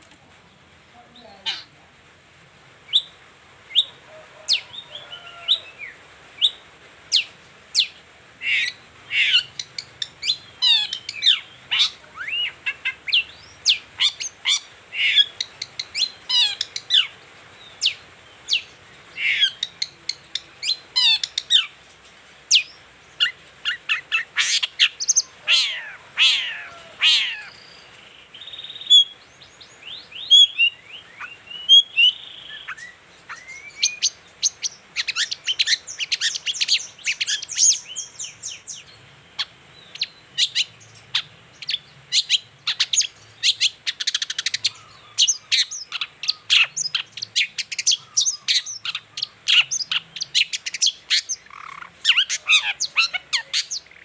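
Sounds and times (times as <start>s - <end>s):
bird chirps and trills: 2.9s - 54.0s.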